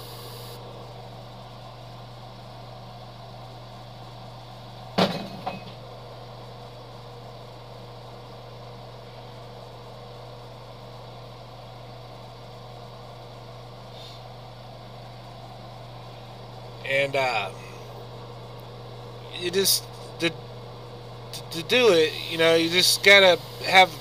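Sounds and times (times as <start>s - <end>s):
electric motor hum: 0.0s - 4.9s, 5.8s - 24.0s.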